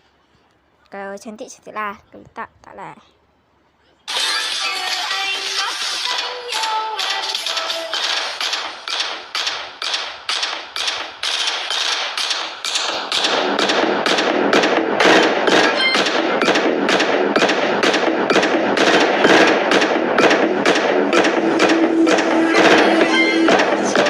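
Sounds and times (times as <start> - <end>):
music with percussive beat: 4.1 - 24.0.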